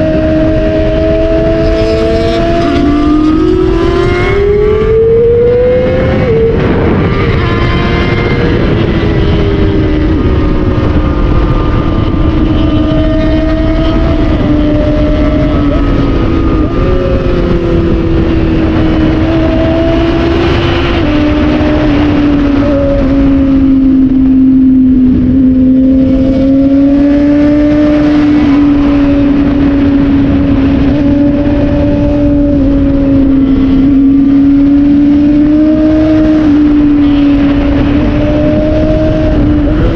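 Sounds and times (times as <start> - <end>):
low rush of wind: 0.0 - 39.9
motorcycle engine at high revs: 0.0 - 39.9.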